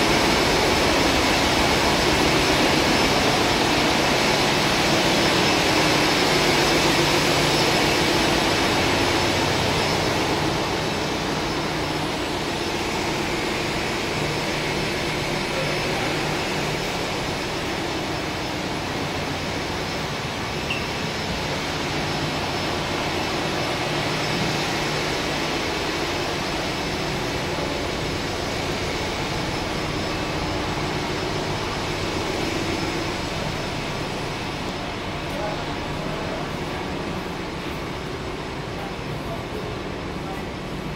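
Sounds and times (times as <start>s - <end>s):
engine room machinery roaring: 0.0s - 40.9s.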